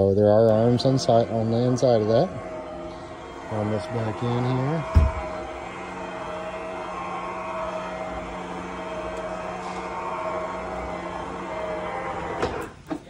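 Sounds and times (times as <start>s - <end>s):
awning motor humming: 0.0s - 13.0s.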